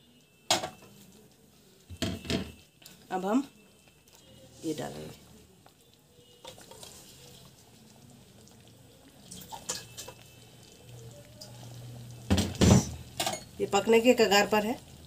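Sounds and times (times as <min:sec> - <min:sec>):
curry simmering: 0:00.0 - 0:15.0.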